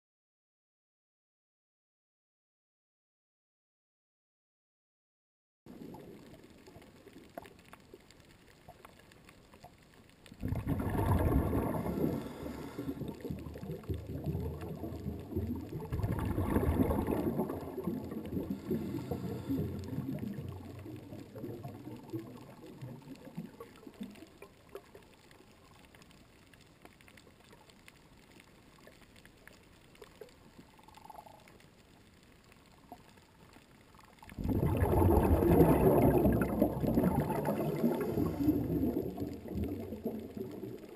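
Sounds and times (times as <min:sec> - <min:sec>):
muffled underwater water noise: 0:05.7 - 0:40.9.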